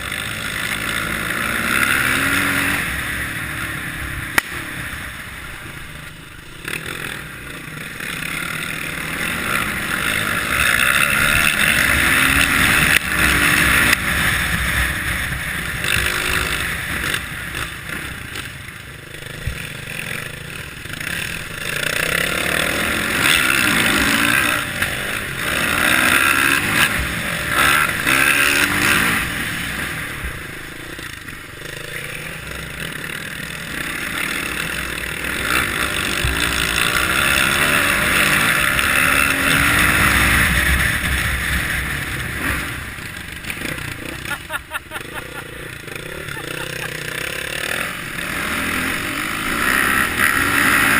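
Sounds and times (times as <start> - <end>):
motorcycle engine on trail: 0.0 - 50.9.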